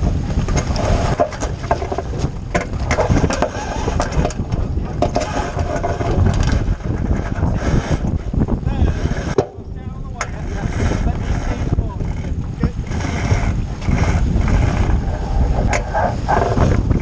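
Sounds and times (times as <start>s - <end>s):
wind buffeting microphone: 0.0s - 17.0s
rigging rattling: 0.4s - 17.0s.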